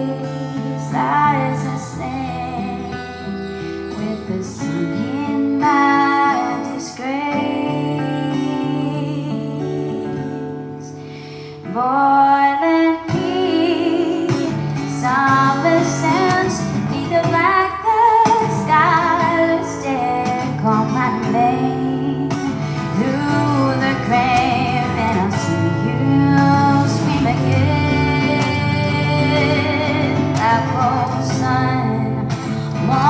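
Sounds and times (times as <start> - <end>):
acoustic guitar: 0.0 - 33.0
woman singing: 0.0 - 33.0.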